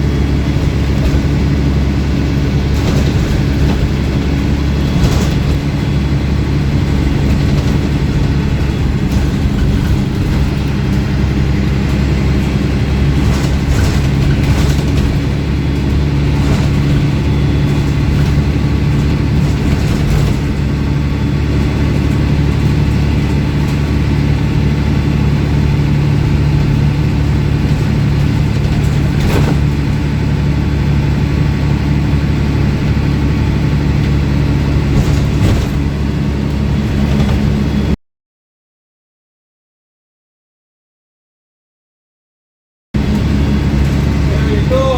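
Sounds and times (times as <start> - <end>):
sharp rattles: 0.0 - 37.6
bus diesel engine droning: 0.0 - 38.0, 43.0 - 44.9.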